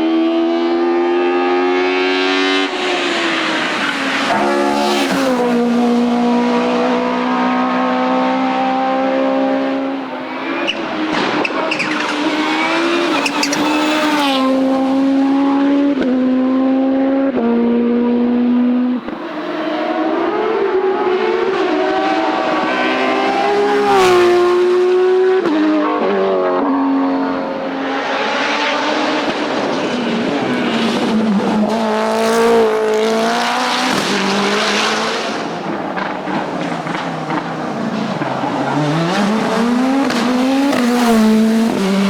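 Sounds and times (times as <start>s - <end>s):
racing car engine revving: 0.0s - 42.0s.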